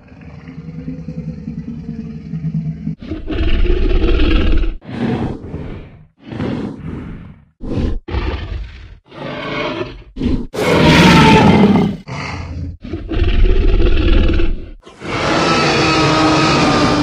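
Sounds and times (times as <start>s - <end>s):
dinosaur growls and grunts: 0.0s - 17.0s
dinosaur roar: 0.0s - 17.0s.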